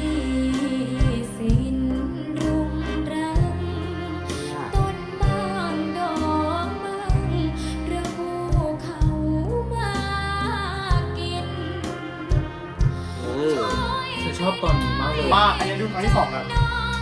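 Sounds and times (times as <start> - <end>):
band music with bass: 0.0 - 17.0
woman singing: 0.0 - 17.0.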